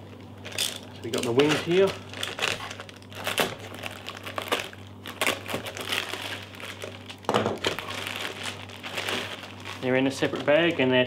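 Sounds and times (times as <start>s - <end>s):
plastic wrapping crinkling: 0.4s - 11.0s.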